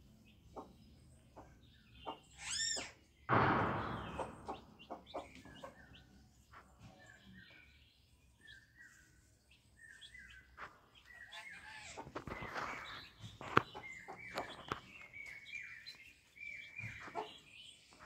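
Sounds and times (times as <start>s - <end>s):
chicks chirping softly: 0.0s - 18.0s.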